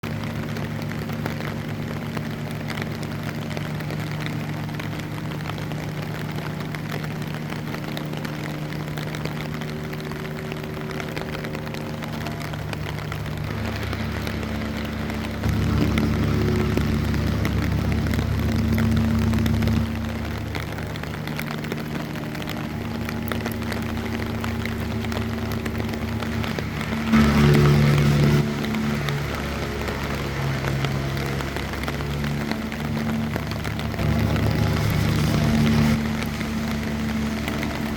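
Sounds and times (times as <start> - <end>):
idling engine hum: 0.0 - 37.9
rain patter: 0.0 - 37.9.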